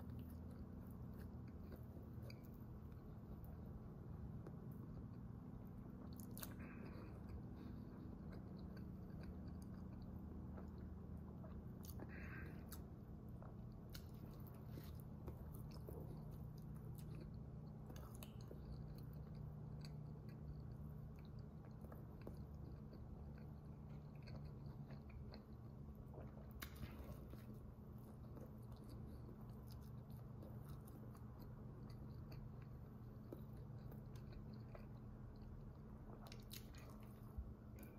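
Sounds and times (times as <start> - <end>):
low steady hum: 0.0 - 37.9
person chewing food: 0.0 - 37.9.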